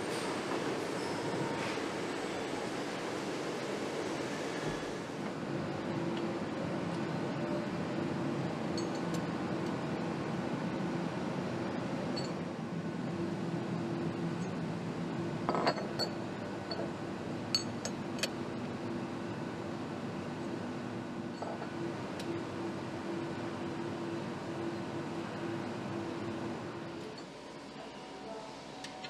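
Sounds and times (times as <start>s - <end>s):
factory machinery hum: 0.0s - 29.0s.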